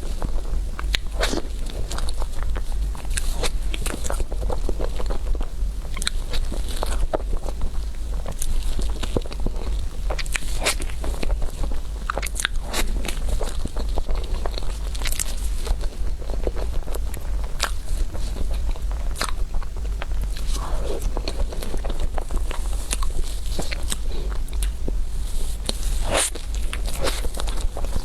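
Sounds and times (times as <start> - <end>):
chewing and crunching: 0.0 - 28.0
steady low hum: 0.0 - 28.0.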